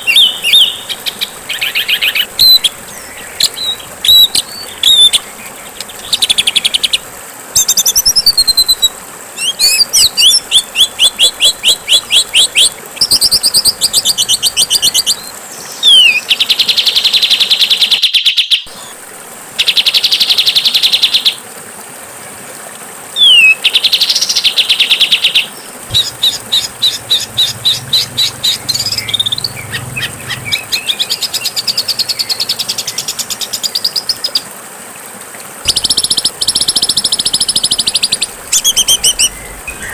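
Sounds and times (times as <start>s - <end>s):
songbird song with trills: 0.0s - 7.0s, 7.6s - 18.7s, 23.2s - 34.4s, 35.7s - 39.9s.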